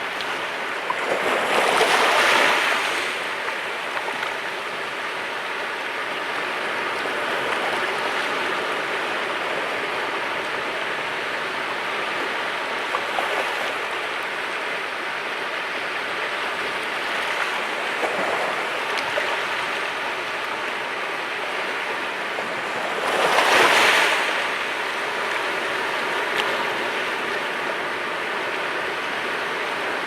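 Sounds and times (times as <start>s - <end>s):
sea waves washing on shore: 0.0s - 30.0s.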